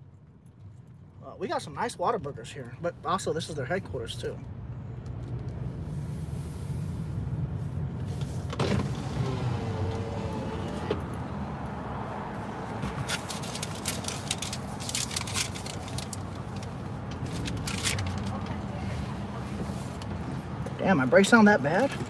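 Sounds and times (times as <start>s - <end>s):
car engine and road rumble: 0.0s - 22.0s
brakes scraping: 0.4s - 22.0s.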